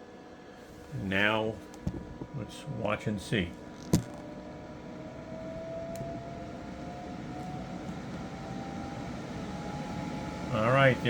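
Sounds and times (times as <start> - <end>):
air conditioner blower running: 0.0 - 11.0.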